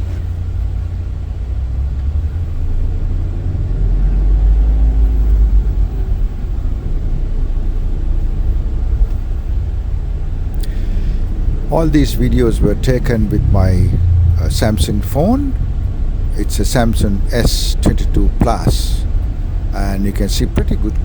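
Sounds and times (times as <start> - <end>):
van road and engine rumble: 0.0 - 21.0.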